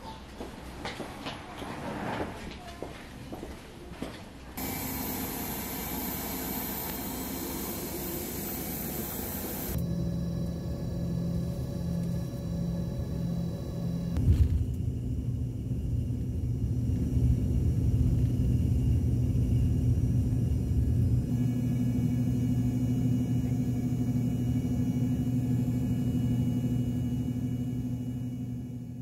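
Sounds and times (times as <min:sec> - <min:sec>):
jet engines droning: 0:04.6 - 0:29.0.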